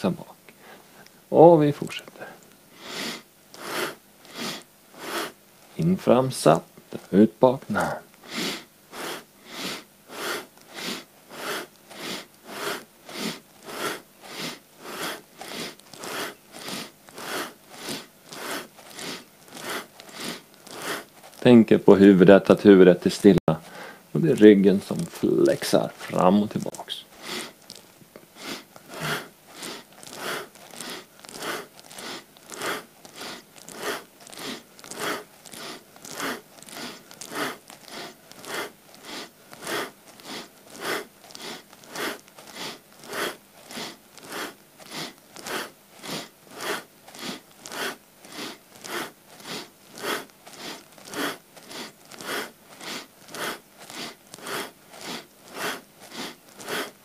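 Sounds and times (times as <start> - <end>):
man breathing forcefully: 2.7 - 5.4, 8.2 - 21.4, 23.6 - 24.1, 27.1 - 27.7, 28.3 - 57.0.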